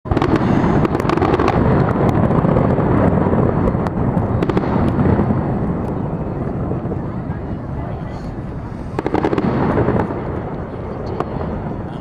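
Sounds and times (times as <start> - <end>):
fireworks bursts rumbling: 0.1 - 12.0
fireworks crackles and pops: 0.1 - 12.0.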